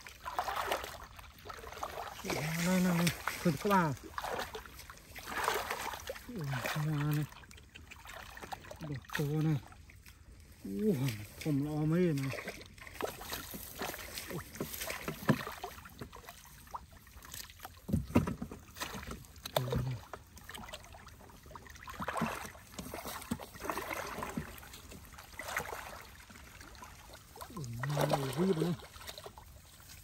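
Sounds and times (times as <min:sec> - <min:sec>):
muddy water sloshing and splashing: 0:00.0 - 0:30.0.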